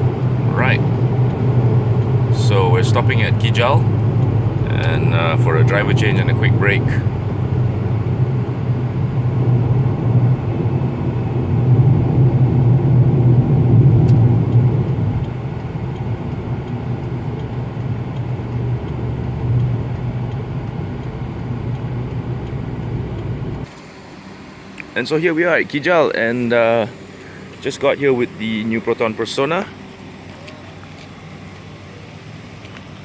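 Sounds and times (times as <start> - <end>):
low hum in car cabin: 0.0 - 33.0
road and tyre noise: 0.0 - 33.0.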